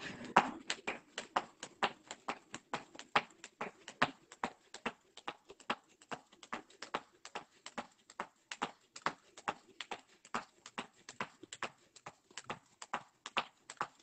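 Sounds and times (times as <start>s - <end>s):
skipping rope tapping on paving: 0.2s - 14.0s.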